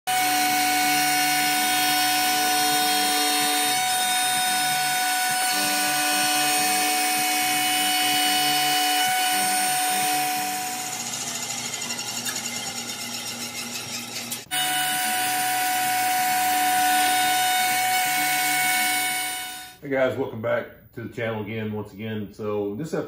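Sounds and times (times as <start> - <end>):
cnc router whine: 0.1 - 19.8.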